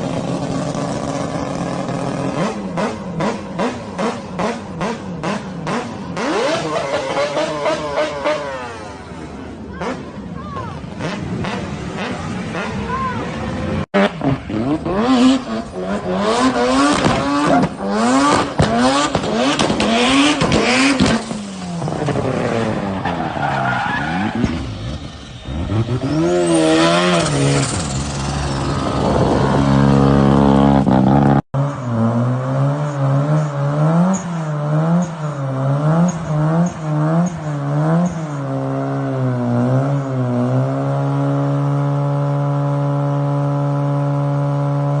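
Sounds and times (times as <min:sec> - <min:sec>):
rotary engine revving: 0:00.0 - 0:09.2, 0:10.9 - 0:45.0.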